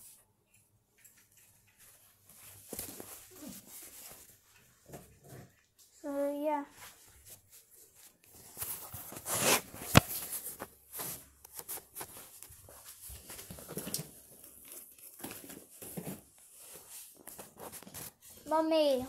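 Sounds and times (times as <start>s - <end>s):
rustling and crinkling handling: 1.0s - 19.0s.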